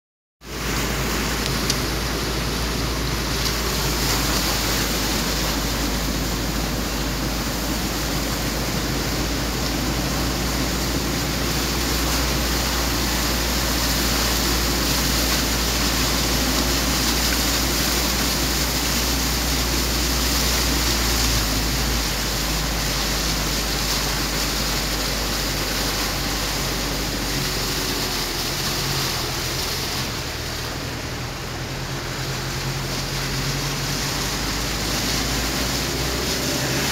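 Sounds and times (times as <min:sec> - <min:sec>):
car engine rumble: 0:00.4 - 0:36.9
tyres rushing through water: 0:00.4 - 0:36.9.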